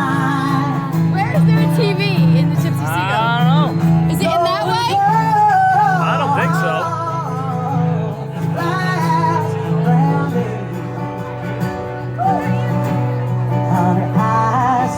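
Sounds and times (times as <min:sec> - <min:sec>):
live band playing: 0:00.0 - 0:14.9.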